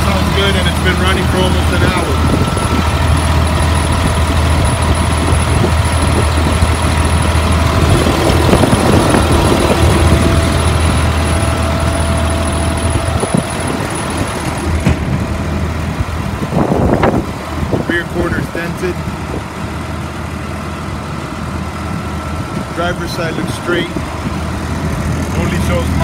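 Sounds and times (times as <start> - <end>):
bus engine idling: 0.0 - 26.0.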